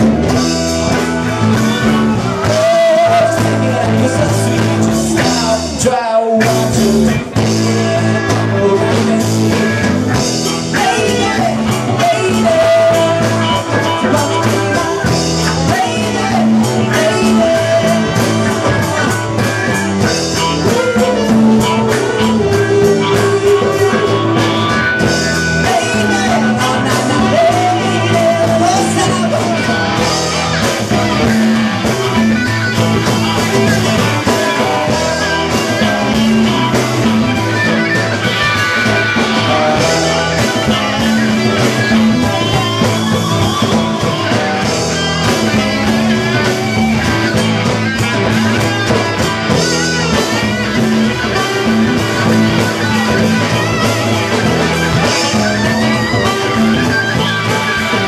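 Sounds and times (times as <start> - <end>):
man singing: 0.0 - 58.0
rock band playing: 0.0 - 58.0.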